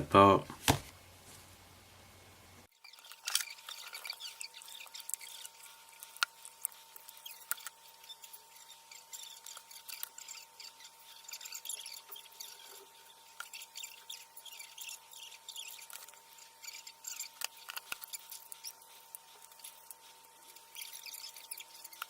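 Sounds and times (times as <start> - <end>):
small tools clicking and scratching: 2.7 - 22.0.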